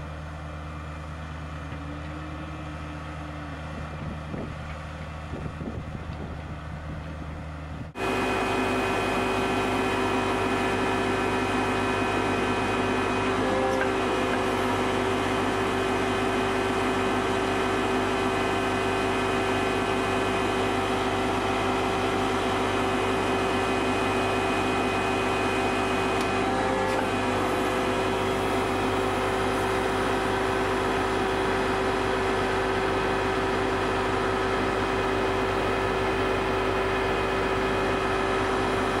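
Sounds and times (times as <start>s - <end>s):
heavy machinery engine drone: 0.0s - 39.0s.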